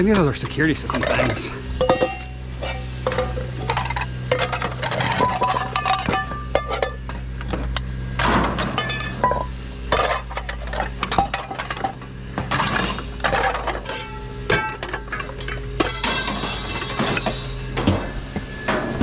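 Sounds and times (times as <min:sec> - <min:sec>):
hard objects clinking and clattering: 0:00.0 - 0:19.0
steady low hum: 0:00.0 - 0:19.0.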